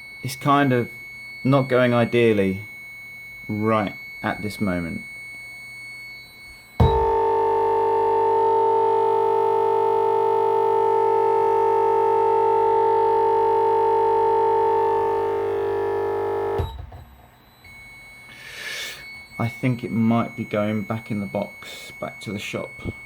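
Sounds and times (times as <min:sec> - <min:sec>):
electronic buzz from speakers: 0:00.0 - 0:23.0.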